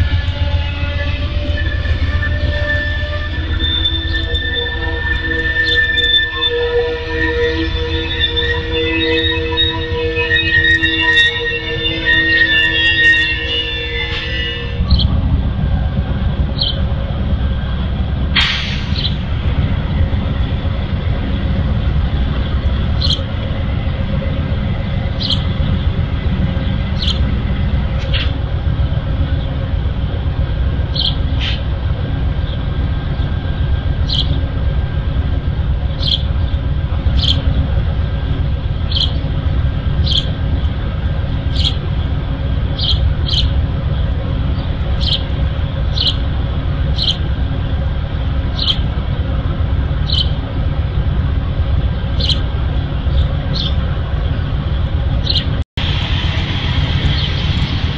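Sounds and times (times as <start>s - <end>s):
diesel locomotive idling: 0.0s - 57.9s.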